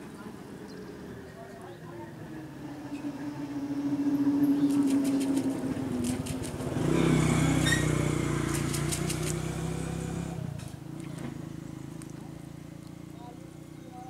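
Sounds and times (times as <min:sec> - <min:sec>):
engine running steadily: 0:02.0 - 0:14.0.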